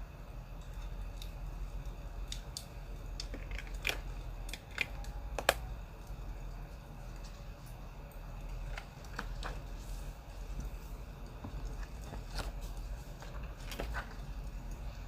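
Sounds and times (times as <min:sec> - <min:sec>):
steady low hum: 0:00.0 - 0:15.0
wood fire popping and snapping: 0:00.5 - 0:15.0.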